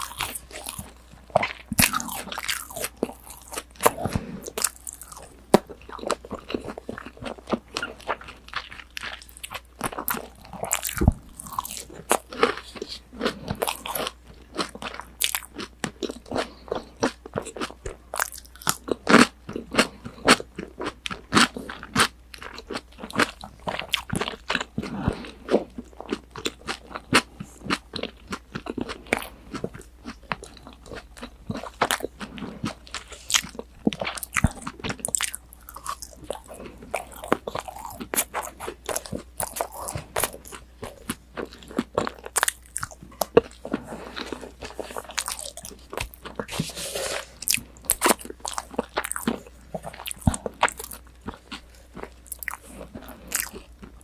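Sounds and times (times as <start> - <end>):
crunchy food being chewed: 0.0 - 54.0.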